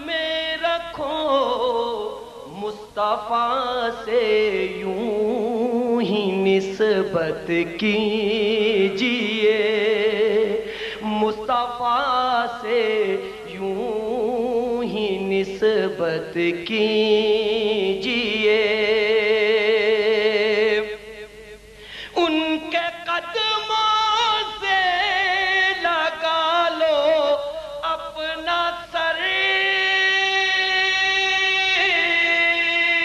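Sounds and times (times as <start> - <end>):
man singing with long held notes: 0.0 - 33.0.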